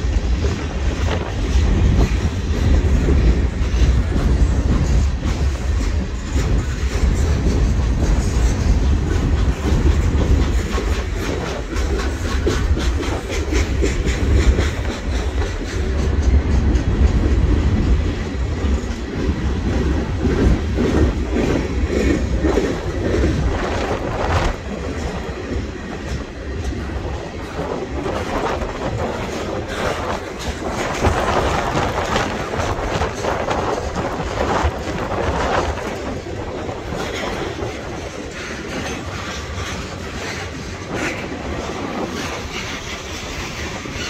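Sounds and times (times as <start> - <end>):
train rumble: 0.0 - 44.0
train wheels clacking over rail joints: 0.0 - 44.0.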